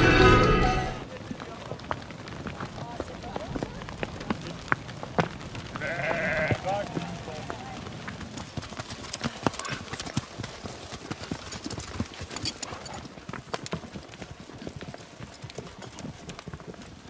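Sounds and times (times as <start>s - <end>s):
horse hoofbeats on dirt: 0.9s - 17.0s.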